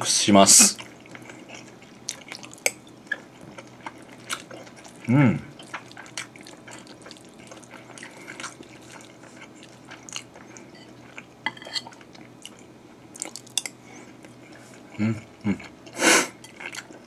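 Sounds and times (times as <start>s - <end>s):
person chewing: 0.8s - 17.0s.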